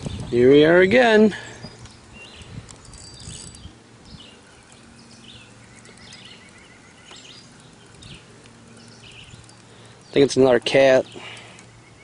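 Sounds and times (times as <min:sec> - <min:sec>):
birds chirping: 0:00.0 - 0:12.0
bird trill: 0:01.4 - 0:10.3, 0:11.0 - 0:12.0.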